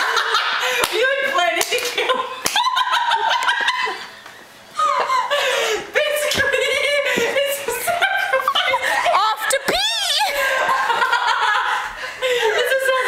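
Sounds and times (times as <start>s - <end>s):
group of people laughing: 0.0s - 9.6s, 10.2s - 13.0s.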